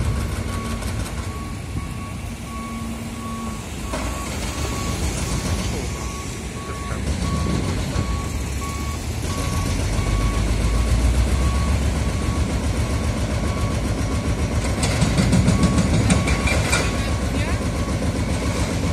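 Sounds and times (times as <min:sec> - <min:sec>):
diesel machinery rumbling: 0:00.0 - 0:18.9
reversing alarm beeping: 0:00.0 - 0:18.9.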